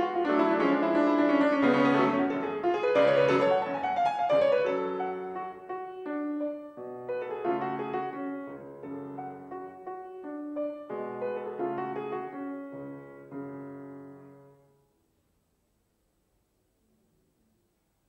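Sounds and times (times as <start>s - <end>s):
solo grand piano classical music: 0.0s - 15.1s.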